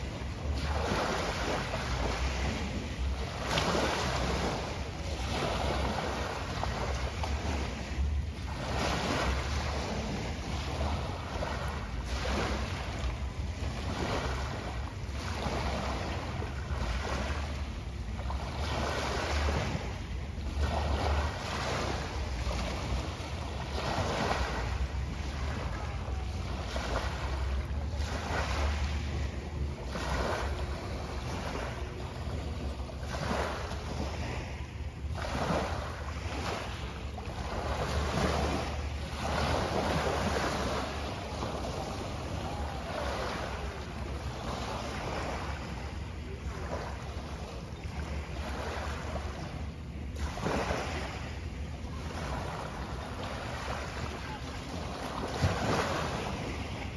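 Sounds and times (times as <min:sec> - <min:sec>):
small waves washing ashore: 0:00.0 - 0:56.9.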